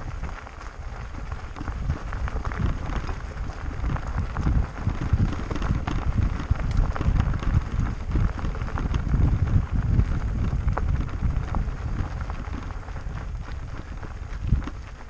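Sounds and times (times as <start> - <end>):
bike tyres crunching on gravel: 0.0 - 15.0
bike knocks and rattles: 1.1 - 15.0.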